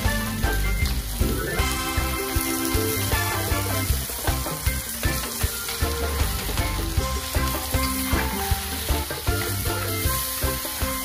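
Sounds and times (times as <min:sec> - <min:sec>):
background music: 0:00.0 - 0:11.0
food sizzling in a wok: 0:00.0 - 0:11.0.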